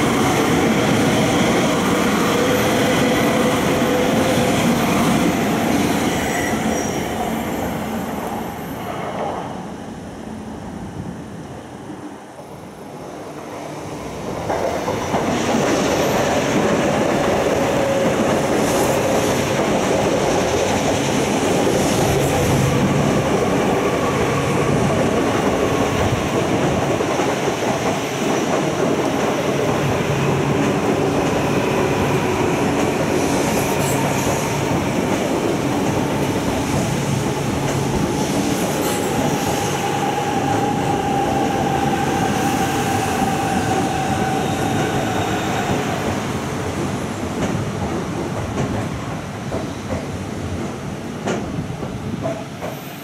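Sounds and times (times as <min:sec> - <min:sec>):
train wheels rushing on rail: 0:00.0 - 0:53.0.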